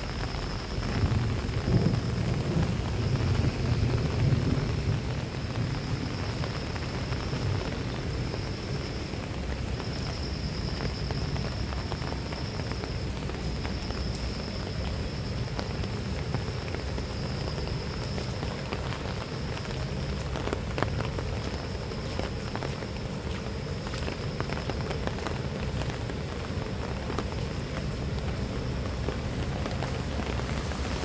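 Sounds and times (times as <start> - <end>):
rain on leaves and puddles: 0.0 - 31.0.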